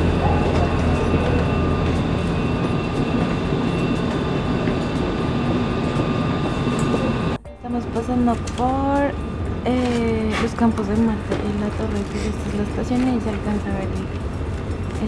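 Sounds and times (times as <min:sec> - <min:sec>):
low hum: 0:00.0 - 0:15.0
train rumble: 0:00.0 - 0:15.0.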